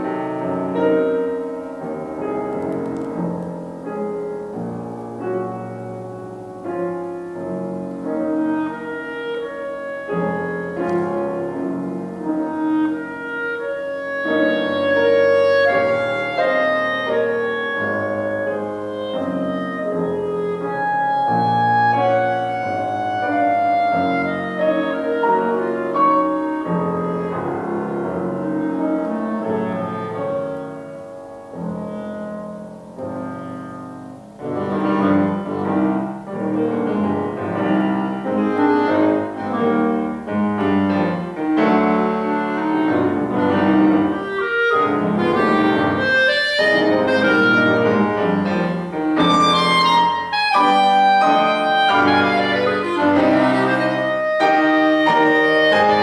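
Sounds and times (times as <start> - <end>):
clarinet: 0.0 - 56.0
grand piano: 0.0 - 56.0.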